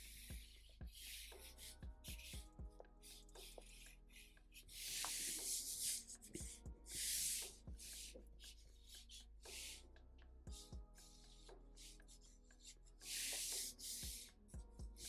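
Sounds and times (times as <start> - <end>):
marker scratching on paper: 0.0 - 2.3, 3.0 - 9.8, 11.0 - 14.3.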